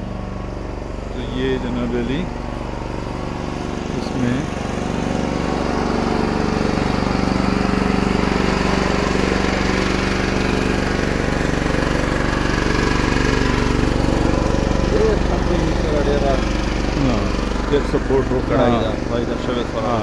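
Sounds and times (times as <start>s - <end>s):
generator engine humming: 0.0s - 20.0s.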